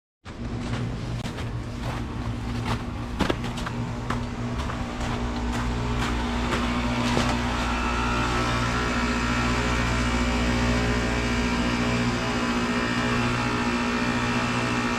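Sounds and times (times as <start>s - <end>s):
heat pump humming: 0.3s - 14.9s
high steady whine: 0.3s - 14.9s.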